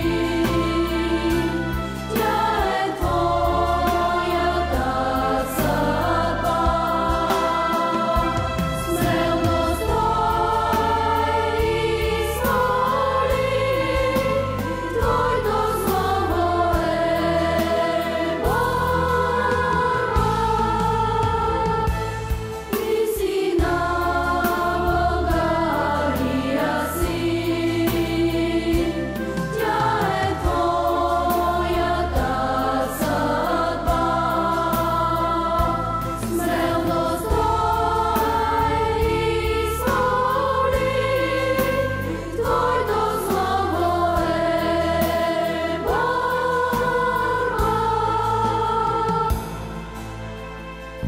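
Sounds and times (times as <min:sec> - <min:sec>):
group singing a hymn: 0:00.0 - 0:51.0
instrumental accompaniment: 0:00.0 - 0:51.0.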